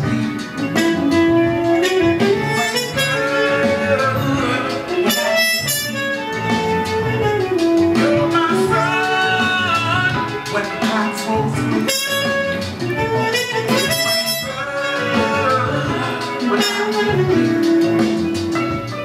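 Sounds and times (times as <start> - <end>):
soul music with guitar bass drums: 0.0 - 19.0
muted trumpet melody: 0.6 - 19.0.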